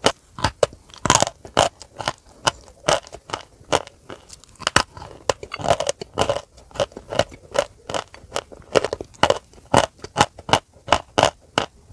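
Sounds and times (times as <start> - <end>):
chewing crunchy chalk: 0.0 - 11.8.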